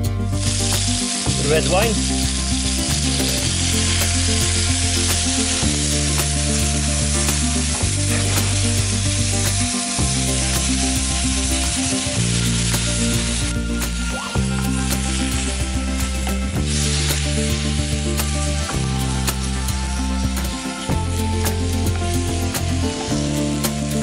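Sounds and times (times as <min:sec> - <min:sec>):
wine sizzling in hot pan: 0:00.0 - 0:24.0.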